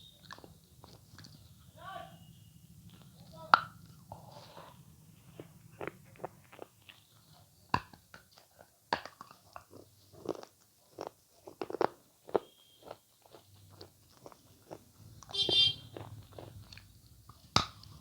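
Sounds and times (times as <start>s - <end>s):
avocado being bitten and chewed: 2.9s - 18.0s.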